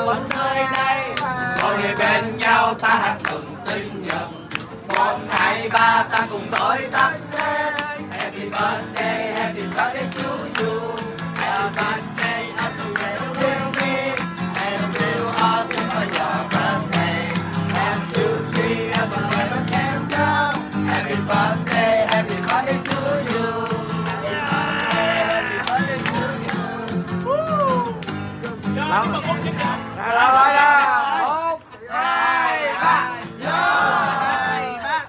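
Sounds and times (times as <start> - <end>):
voices singing together: 0.0 - 27.9, 30.0 - 35.0
guitar backing music: 0.0 - 30.1
hands clapping: 0.1 - 28.7.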